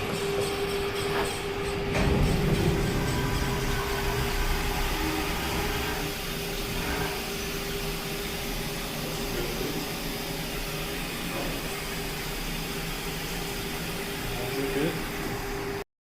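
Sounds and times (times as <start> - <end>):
machine hiss: 0.0 - 15.8
mid-pitched machine hum: 0.0 - 15.8.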